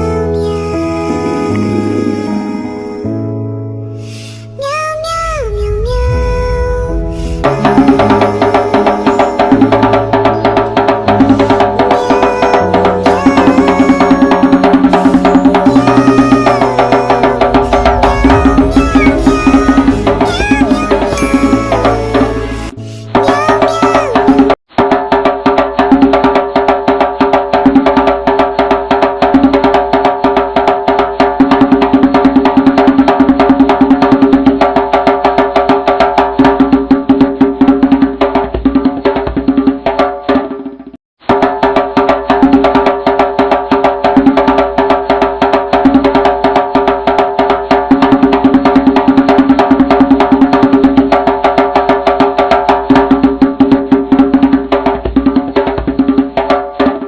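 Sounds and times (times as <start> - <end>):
music with wood-block percussion: 7.4 - 57.0.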